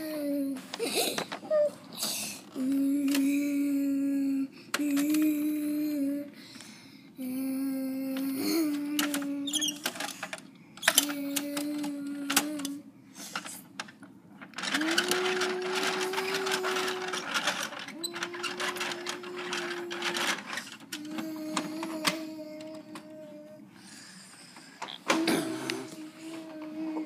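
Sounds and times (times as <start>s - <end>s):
child humming engine sound: 0.0s - 6.4s, 7.2s - 9.9s, 11.0s - 12.9s, 14.6s - 24.2s, 25.1s - 27.0s.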